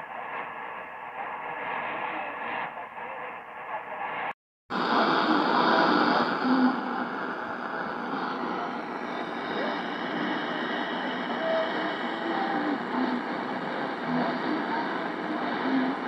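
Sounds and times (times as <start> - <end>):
faint radio tone fragments: 0.0 - 16.0
shortwave radio static: 0.0 - 16.0.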